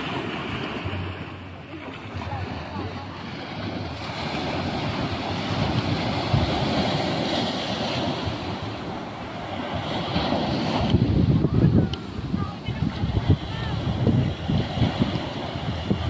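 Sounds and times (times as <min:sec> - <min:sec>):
ocean surf breaking on beach: 0:00.0 - 0:16.0
wind buffeting microphone: 0:00.0 - 0:16.0.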